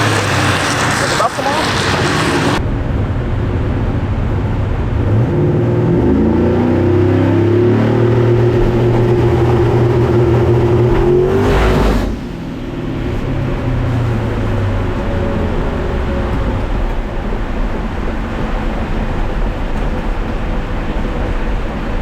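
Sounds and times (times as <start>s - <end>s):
race car engine accelerating: 0.0s - 2.6s, 4.9s - 22.0s.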